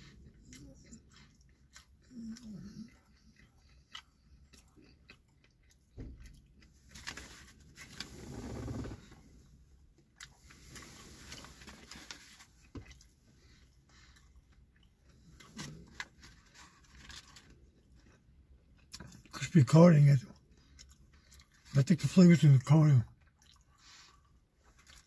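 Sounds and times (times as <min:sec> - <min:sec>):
chewing crispy sandwich: 0:00.0 - 0:19.6, 0:20.2 - 0:22.2, 0:23.0 - 0:25.0.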